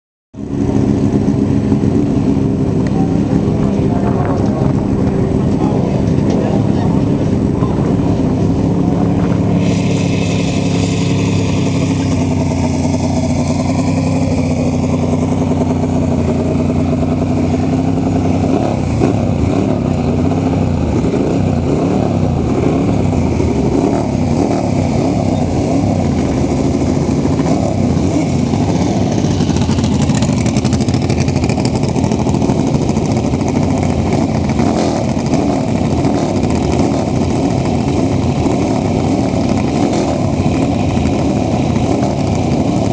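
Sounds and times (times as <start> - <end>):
motorcycle engines idling and revving: 0.4 - 42.9.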